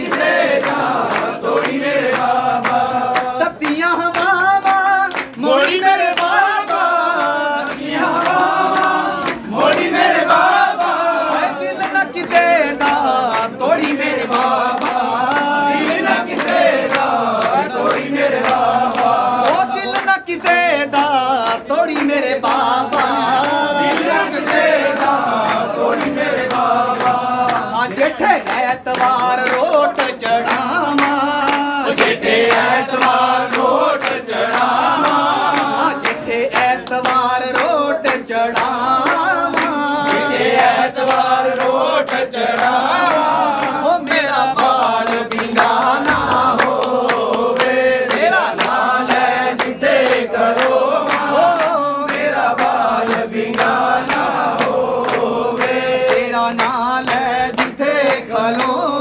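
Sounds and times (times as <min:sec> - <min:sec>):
group singing: 0:00.0 - 0:59.0
hand clapping: 0:00.0 - 0:59.0.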